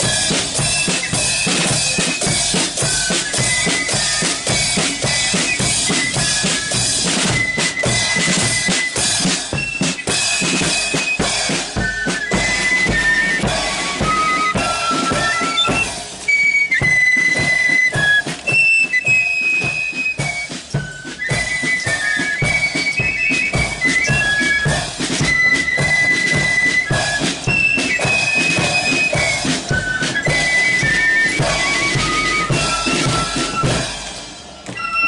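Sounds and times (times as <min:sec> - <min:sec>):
high flutes playing melody: 0:00.0 - 0:35.0
snare drums: 0:00.0 - 0:35.0.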